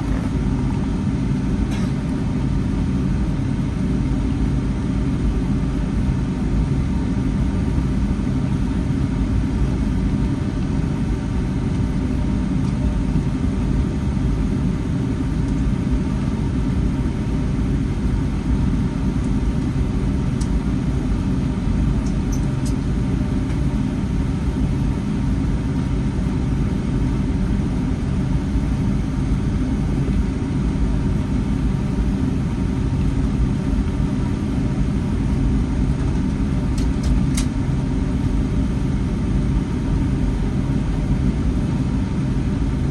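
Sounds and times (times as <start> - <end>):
airplane engines rumbling in cabin: 0.0 - 42.9.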